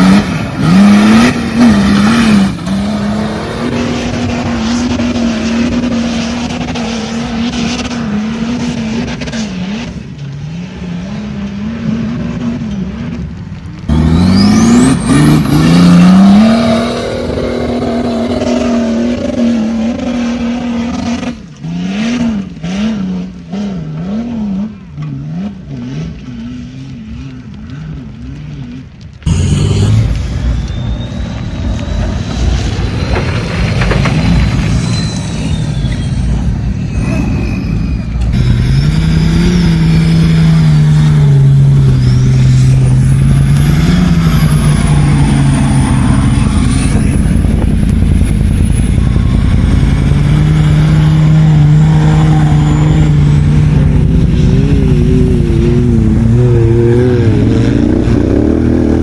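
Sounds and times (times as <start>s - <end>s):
off-road vehicle engines revving: 0.0s - 59.0s.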